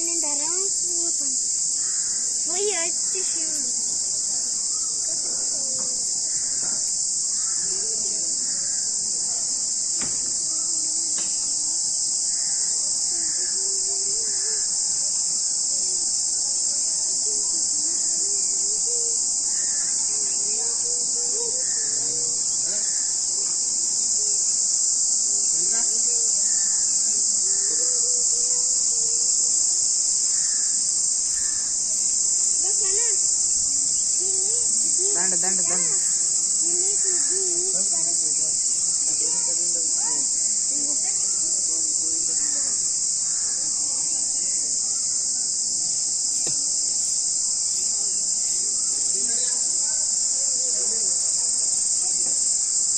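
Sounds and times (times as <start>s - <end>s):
insects droning: 0.0s - 52.9s.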